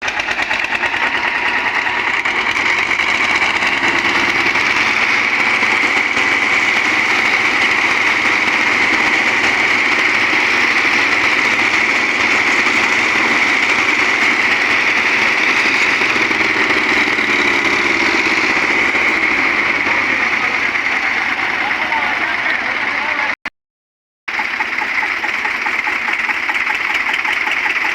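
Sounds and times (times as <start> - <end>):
loud tractor engine running: 0.0 - 23.4, 24.3 - 27.9.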